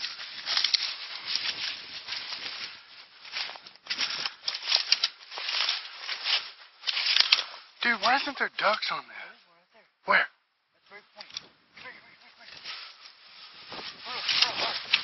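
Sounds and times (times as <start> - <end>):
dry grass rustling underfoot: 0.0 - 8.9, 10.8 - 15.0.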